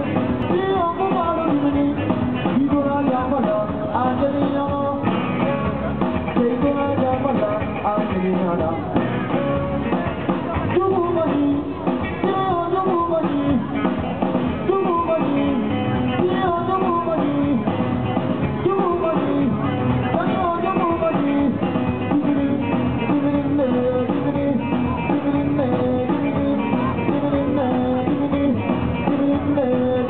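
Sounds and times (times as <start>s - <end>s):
drums: 0.0s - 30.0s
electric guitar: 0.0s - 30.0s
person singing: 0.0s - 30.0s.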